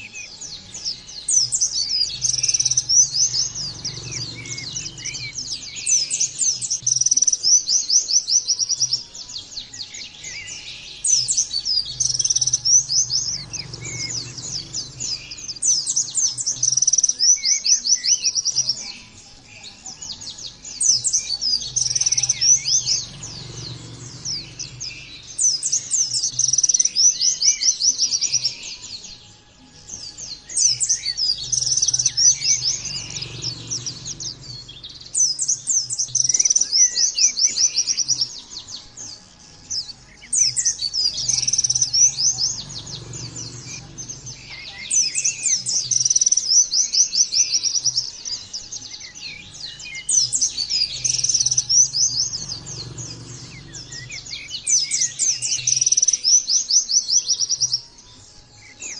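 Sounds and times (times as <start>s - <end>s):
bird singing high twittering phrases: 0.0s - 58.9s.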